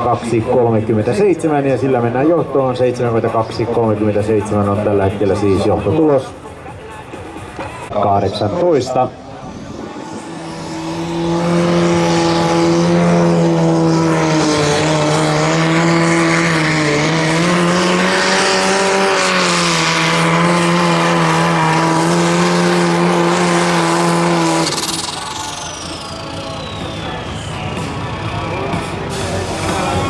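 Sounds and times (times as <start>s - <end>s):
diesel tractor engine under full load: 0.0s - 30.0s.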